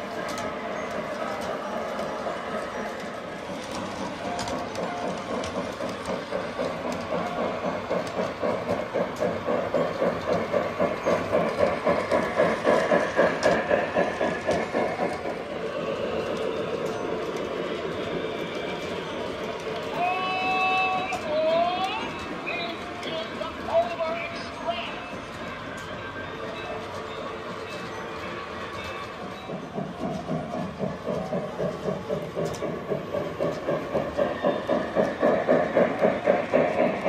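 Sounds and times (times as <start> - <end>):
toy train clattering on track: 0.0 - 37.0.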